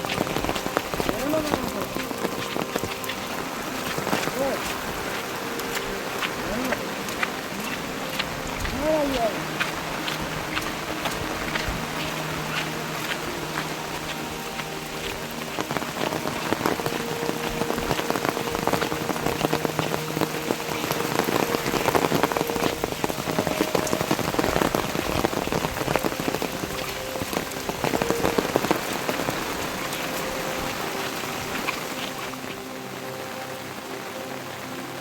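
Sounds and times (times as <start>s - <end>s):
heavy rain on a surface: 0.0s - 35.0s.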